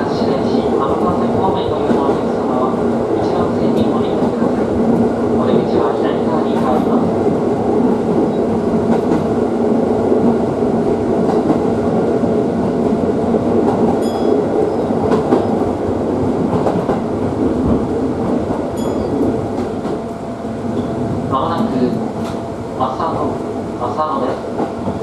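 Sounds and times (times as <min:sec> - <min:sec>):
train wheels and motors rumbling: 0:00.0 - 0:25.0.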